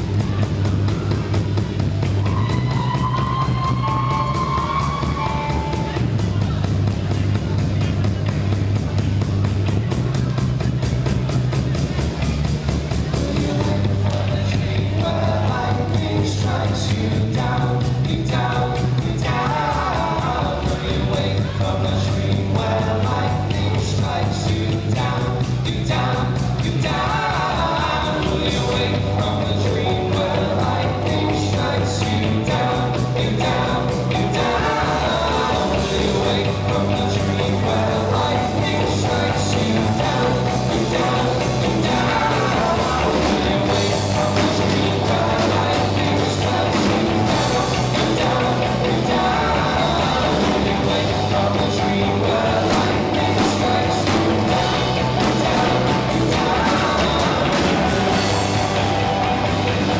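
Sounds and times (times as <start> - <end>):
bass line: 0.0 - 59.9
live rock band playing: 0.0 - 59.9
person singing: 2.0 - 8.6, 12.9 - 59.9.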